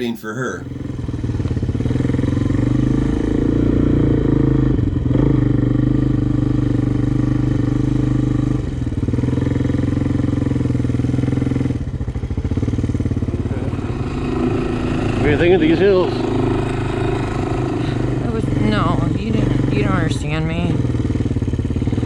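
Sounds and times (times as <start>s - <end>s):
quad bike engine running: 0.7s - 22.0s.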